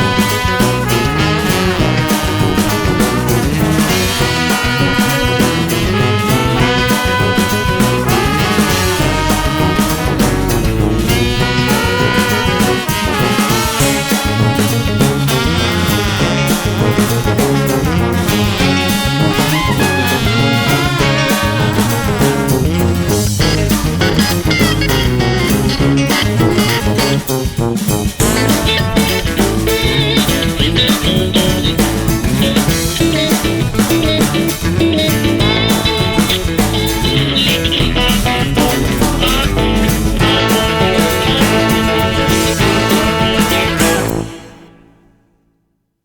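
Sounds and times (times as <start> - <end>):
upbeat swing blues music: 0.0 - 44.8.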